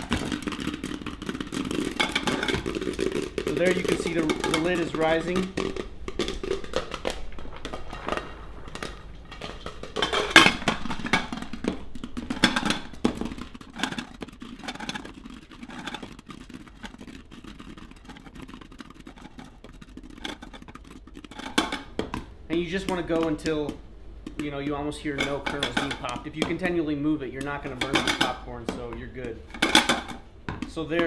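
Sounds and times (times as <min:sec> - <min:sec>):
popcorn popping: 0:00.0 - 0:31.0.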